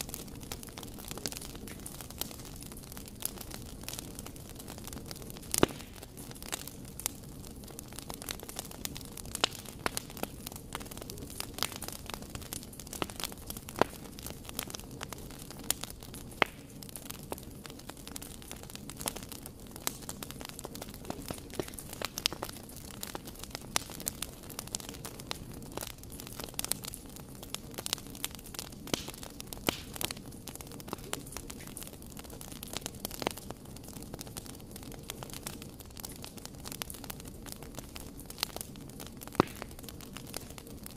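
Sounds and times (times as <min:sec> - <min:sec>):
low rush of flame: 0:00.0 - 0:40.9
wood fire crackling and popping: 0:00.0 - 0:40.9.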